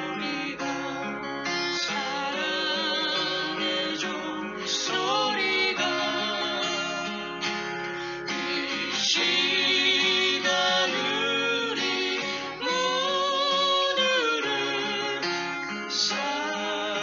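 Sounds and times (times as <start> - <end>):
guitar accompaniment: 0.0 - 17.0
person singing with vibrato: 0.0 - 17.0.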